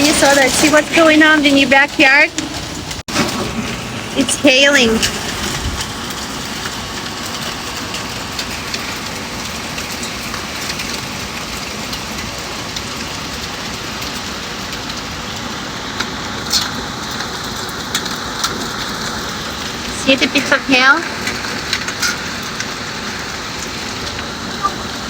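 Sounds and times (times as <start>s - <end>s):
hailstones ticking on hard surfaces: 0.0s - 25.0s
rain hissing: 0.0s - 25.0s.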